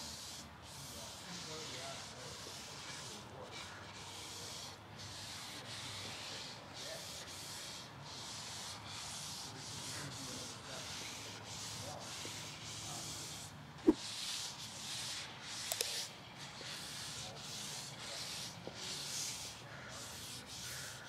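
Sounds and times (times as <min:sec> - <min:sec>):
towel rubbing on cutting board: 0:00.1 - 0:20.9.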